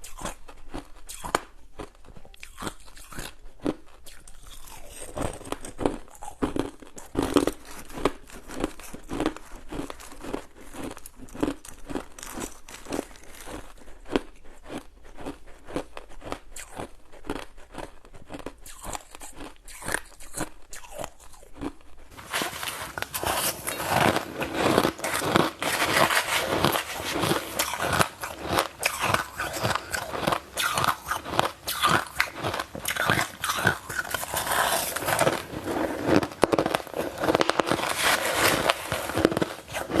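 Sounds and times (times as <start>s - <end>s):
ice being chewed: 0.0s - 40.0s.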